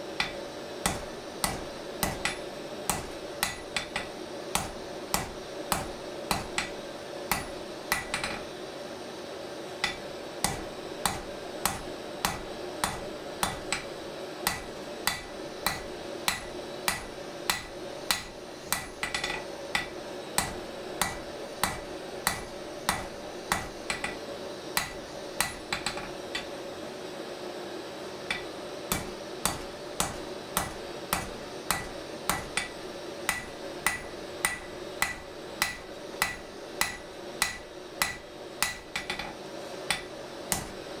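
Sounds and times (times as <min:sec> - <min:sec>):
steady hum: 0:00.0 - 0:41.0
hammer striking steel on anvil: 0:00.2 - 0:08.5, 0:09.8 - 0:24.2, 0:24.8 - 0:26.6, 0:28.3 - 0:40.8.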